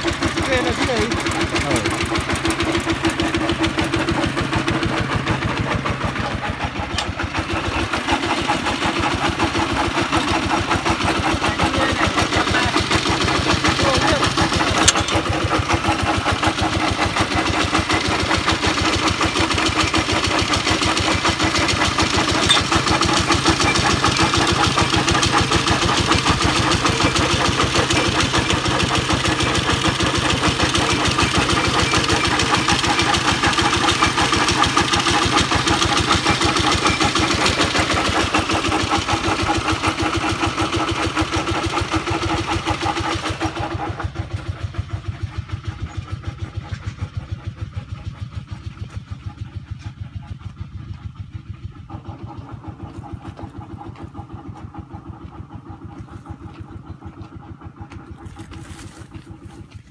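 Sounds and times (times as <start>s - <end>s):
diesel engine chugging: 0.0s - 59.9s.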